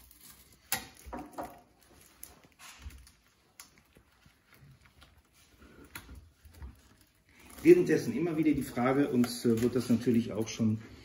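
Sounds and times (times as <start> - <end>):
light taps and handling noise: 0.6 - 10.7.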